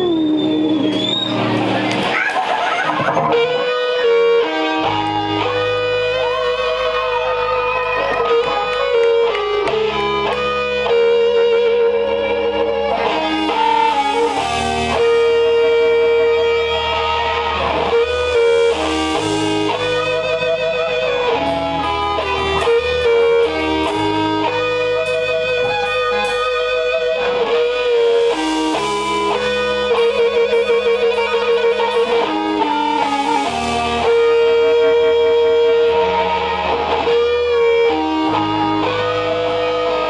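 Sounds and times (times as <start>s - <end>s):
bass guitar line: 0.0s - 40.0s
electric guitars sustained notes: 0.0s - 40.0s.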